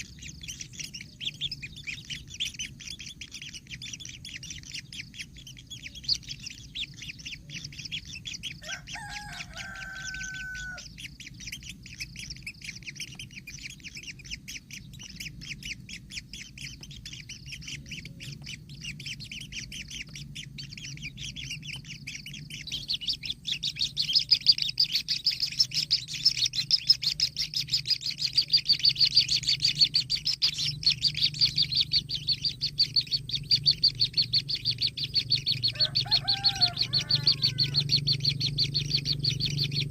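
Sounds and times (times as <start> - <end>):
nestlings chattering: 0.0 - 39.9.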